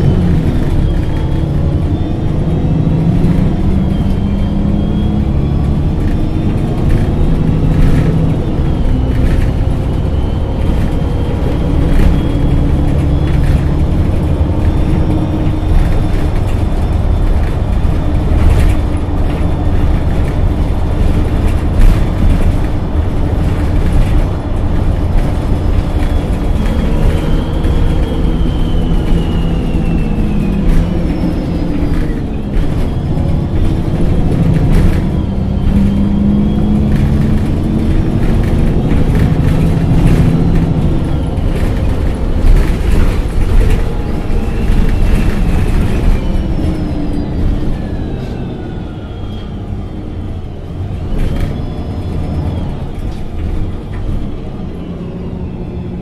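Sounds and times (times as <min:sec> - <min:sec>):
whine gliding down in pitch: 0:00.0 - 0:20.6, 0:25.2 - 0:56.0
bus engine: 0:00.0 - 0:56.0.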